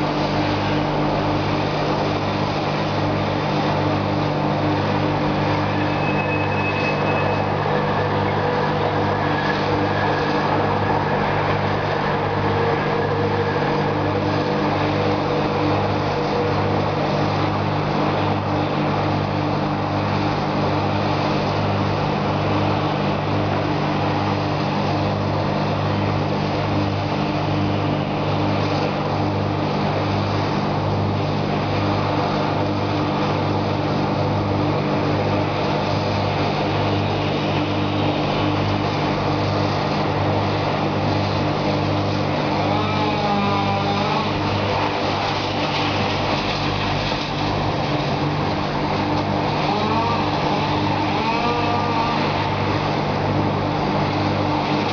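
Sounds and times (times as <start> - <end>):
heavy engine running: 0.0 - 54.9.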